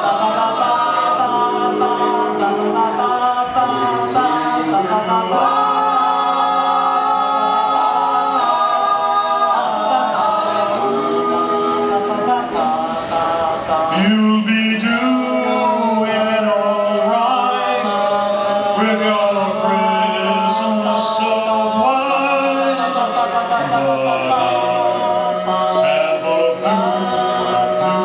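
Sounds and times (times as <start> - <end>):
vocal quartet singing in harmony: 0.0 - 28.0.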